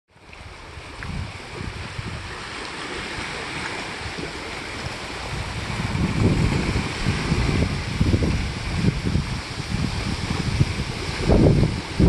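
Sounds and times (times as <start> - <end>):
lake waves washing on shore: 0.1 - 12.0
wind gusting on microphone: 0.2 - 12.0.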